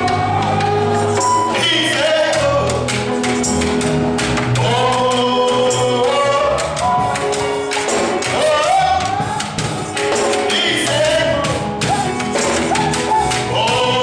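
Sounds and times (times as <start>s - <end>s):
voices singing over a band: 0.0s - 3.6s, 4.5s - 14.0s
tambourine beat: 0.8s - 14.0s.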